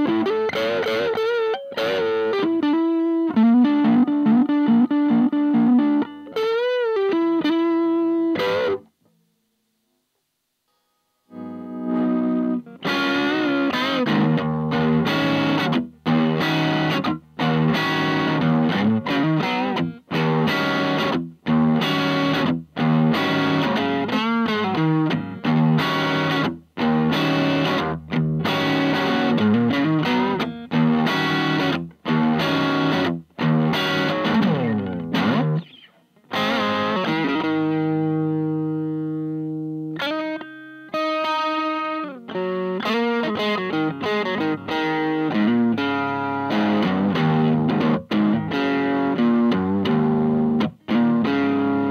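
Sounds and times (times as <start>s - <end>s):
distorted electric guitar chords: 0.0s - 9.2s, 11.2s - 51.9s.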